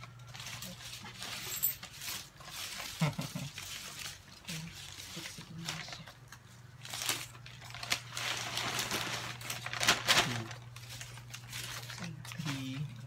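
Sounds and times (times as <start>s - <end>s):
paper banknotes rustling: 0.0s - 13.0s.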